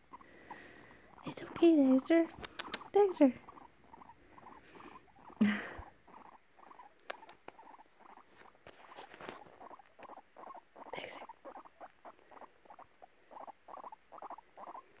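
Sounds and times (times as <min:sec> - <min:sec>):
guinea pig squeaking: 0:00.0 - 0:15.0.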